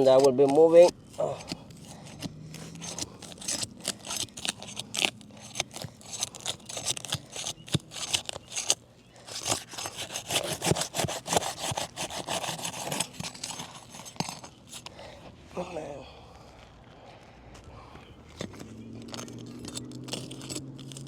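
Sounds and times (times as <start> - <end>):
bar scraping roof shingle: 0.0 - 15.1, 18.2 - 21.0.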